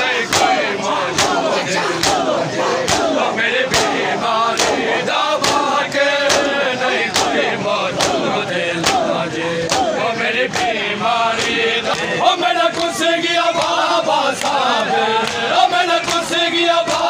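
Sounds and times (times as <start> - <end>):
crowd chanting in unison: 0.0 - 17.0.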